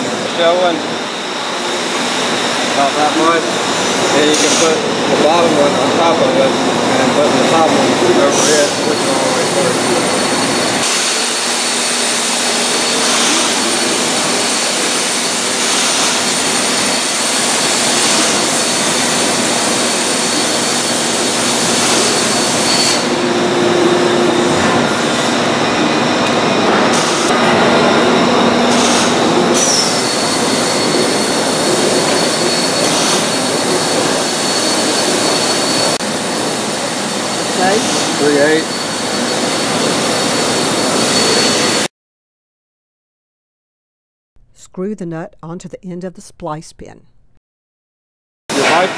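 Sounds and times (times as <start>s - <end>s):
machinery rushing noise: 0.0s - 41.9s, 48.5s - 48.9s
thin high whine: 0.0s - 41.9s.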